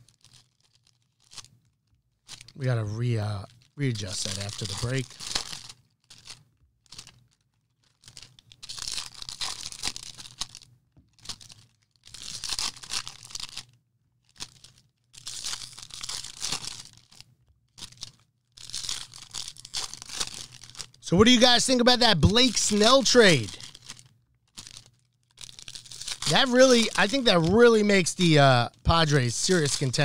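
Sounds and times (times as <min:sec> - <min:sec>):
foil wrappers tearing and crinkling: 0:00.0 - 0:01.5, 0:02.2 - 0:02.6, 0:03.6 - 0:30.0.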